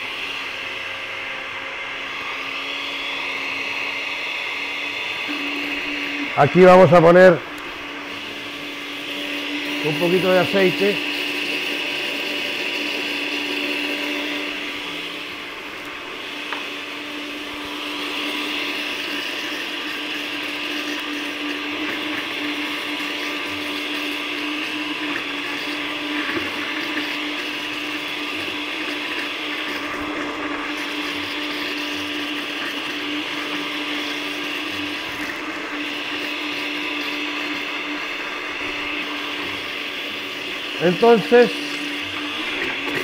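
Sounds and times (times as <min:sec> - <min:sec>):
blender motor hum: 0:00.0 - 0:43.0.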